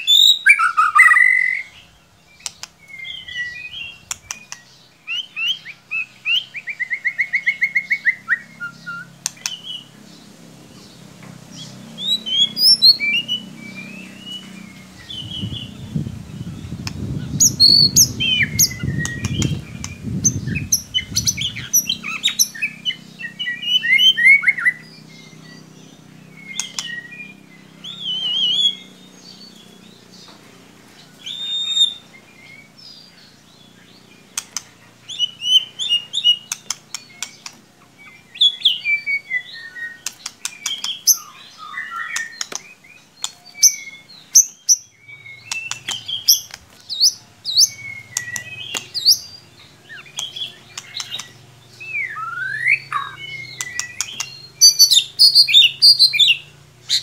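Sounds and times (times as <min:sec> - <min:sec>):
songbird singing whistled phrases: 0:00.0 - 0:10.0, 0:11.5 - 0:30.0, 0:31.0 - 0:57.0.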